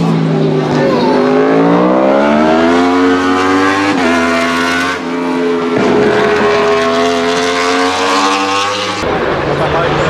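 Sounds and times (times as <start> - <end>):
motorcycle engine accelerating hard: 0.0 - 10.0.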